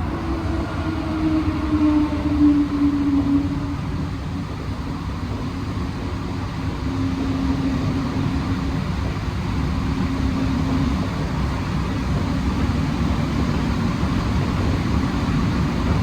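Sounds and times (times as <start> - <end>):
train running gear rumble: 0.0 - 16.0.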